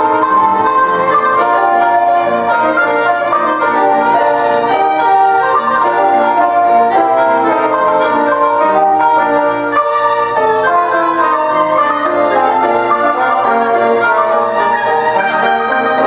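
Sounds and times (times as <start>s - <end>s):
chamber ensemble playing: 0.0s - 16.0s.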